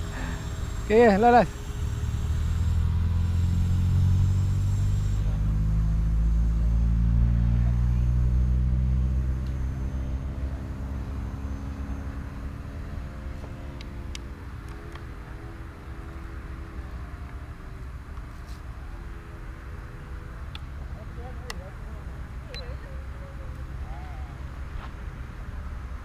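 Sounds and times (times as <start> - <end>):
model airplane engine droning: 0.0 - 24.6.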